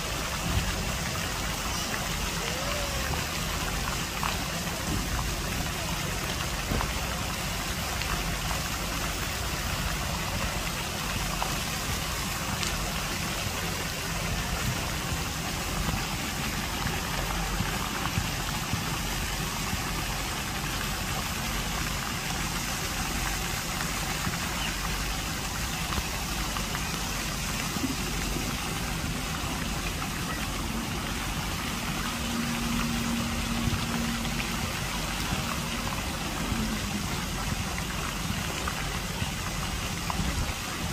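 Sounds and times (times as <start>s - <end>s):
fountain jets splashing on water: 0.0s - 40.9s.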